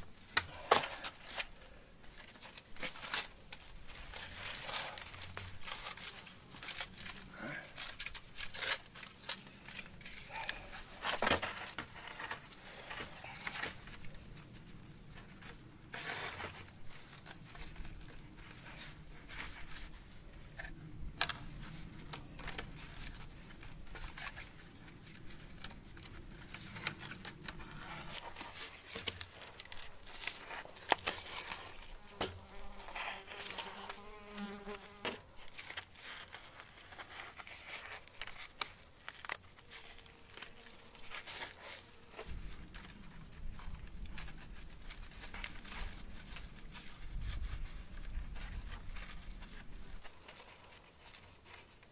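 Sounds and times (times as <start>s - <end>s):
cord rustling against wood: 0.0s - 51.9s.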